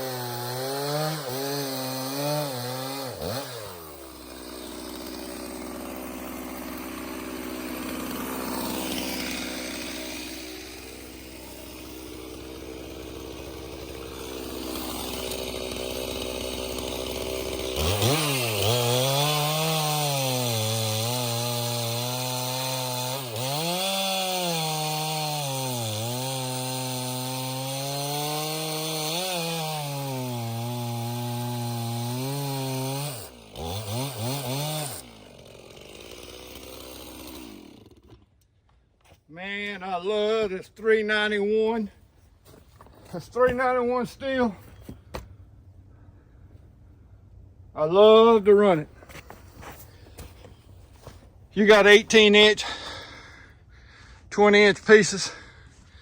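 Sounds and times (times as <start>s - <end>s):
chainsaw cutting wood: 0.0s - 38.9s, 42.5s - 45.4s, 48.0s - 56.0s.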